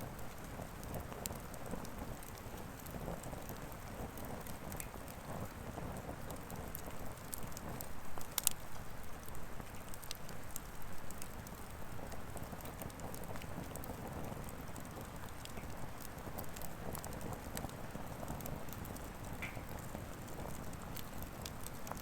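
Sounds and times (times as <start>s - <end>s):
firewood crackling and popping: 0.0s - 22.0s.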